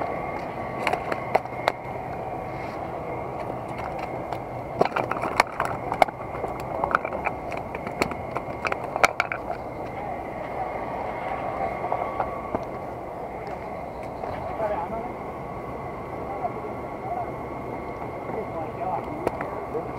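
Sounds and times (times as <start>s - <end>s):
outdoor background hum: 0.0s - 19.9s.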